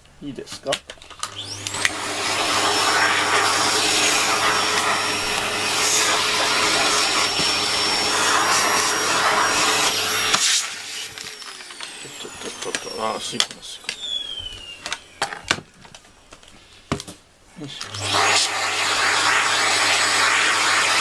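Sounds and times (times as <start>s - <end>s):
vacuum cleaner motor: 1.2s - 15.6s, 17.8s - 21.0s.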